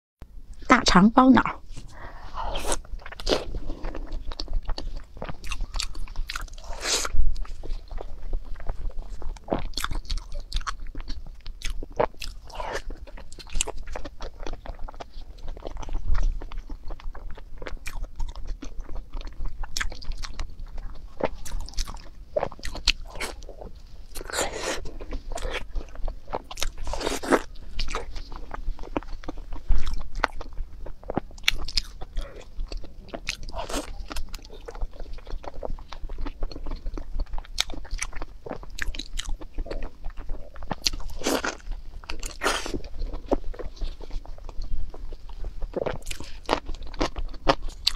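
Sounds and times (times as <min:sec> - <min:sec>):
mouth chewing clicks and smacks: 0:02.7 - 0:06.7, 0:07.4 - 0:23.5, 0:24.1 - 0:47.9.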